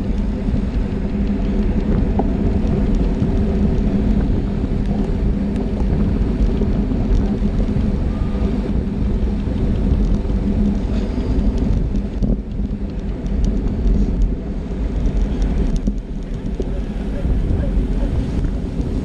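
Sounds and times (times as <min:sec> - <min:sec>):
light ticks: 0:00.0 - 0:19.0
tyres rumbling on road: 0:00.0 - 0:19.0
wind rushing over microphone: 0:00.0 - 0:19.0.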